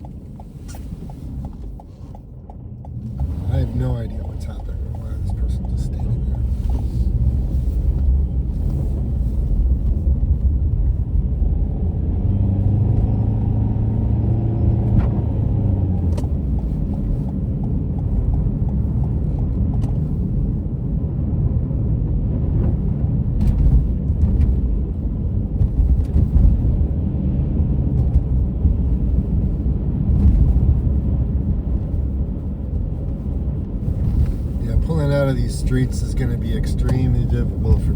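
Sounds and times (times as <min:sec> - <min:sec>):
car driving rumble from inside: 0:00.0 - 0:37.9.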